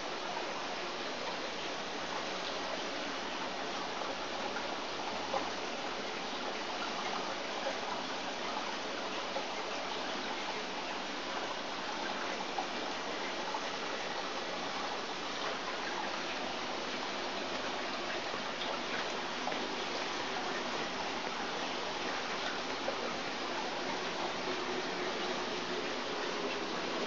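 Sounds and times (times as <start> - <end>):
water running into tanks: 0.0 - 27.0.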